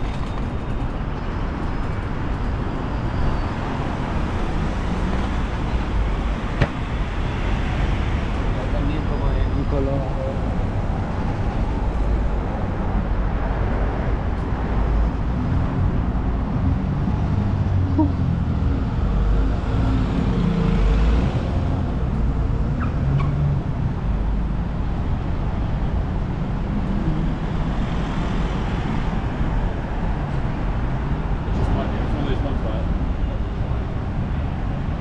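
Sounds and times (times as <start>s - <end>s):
cars and buses passing: 0.0s - 35.0s.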